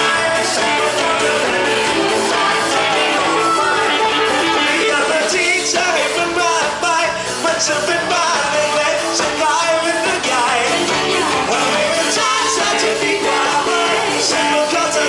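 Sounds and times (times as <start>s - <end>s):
rock and roll song with singer: 0.0s - 15.0s.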